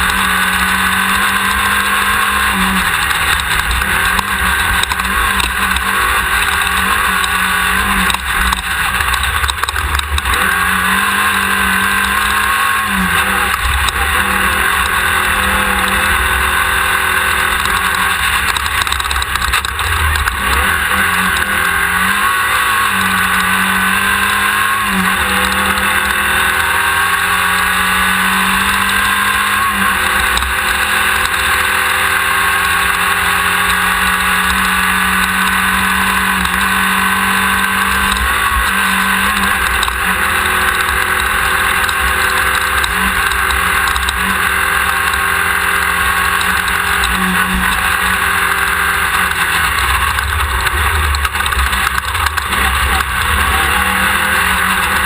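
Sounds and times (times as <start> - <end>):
rattling rush of noise: 0.0 - 27.6, 28.2 - 55.0
race buggy engine running hard: 0.0 - 55.0.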